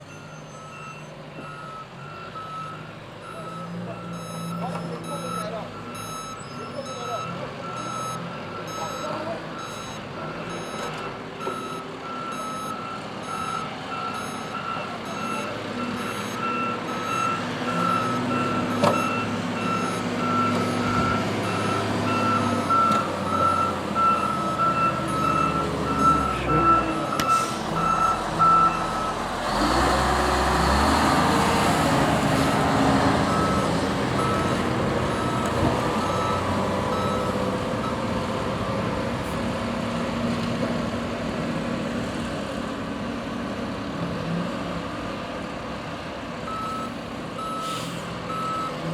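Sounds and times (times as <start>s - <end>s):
truck reversing alarm beeping: 0.0s - 38.4s, 46.5s - 48.9s
heavy truck engines running: 0.0s - 48.9s
rough engine and road noise: 0.0s - 48.9s.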